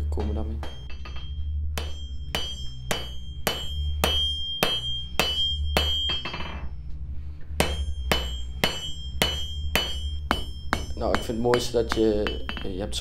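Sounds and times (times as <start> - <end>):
hammer striking metal on anvil: 0.0 - 6.7, 7.6 - 13.0.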